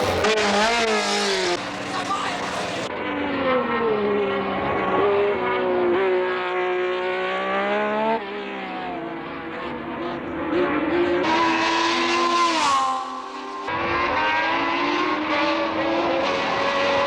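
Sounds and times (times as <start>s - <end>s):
racing car engine revving: 0.0s - 17.0s.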